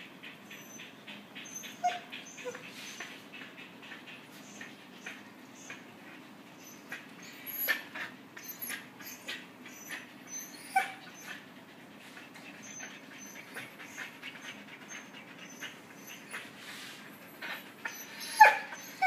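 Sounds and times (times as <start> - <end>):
puppies whimpering and yipping: 0.0 - 5.8, 6.6 - 19.0.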